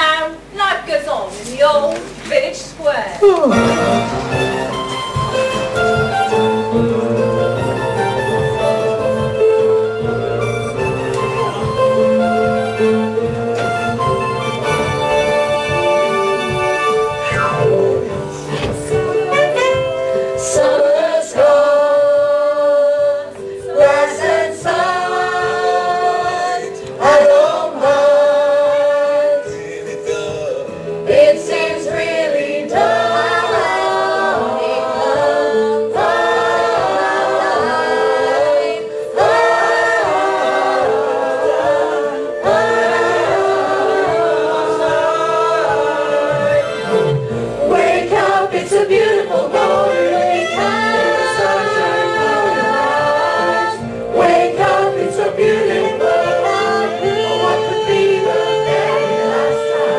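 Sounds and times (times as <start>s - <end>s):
musical backing: 0.0s - 59.9s
chorus singing: 3.4s - 59.9s.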